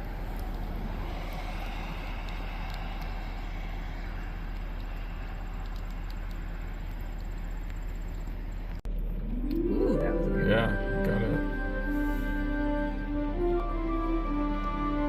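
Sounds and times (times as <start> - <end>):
steady rain: 0.0 - 8.8, 10.9 - 15.0
low steady hum: 0.0 - 15.0.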